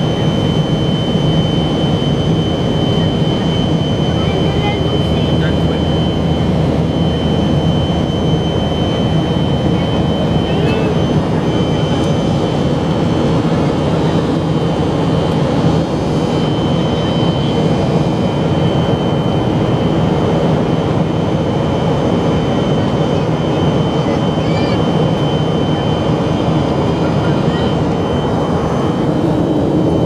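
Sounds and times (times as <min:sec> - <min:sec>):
high steady whine: 0:00.0 - 0:30.0
jet engine cabin rumble: 0:00.0 - 0:30.0.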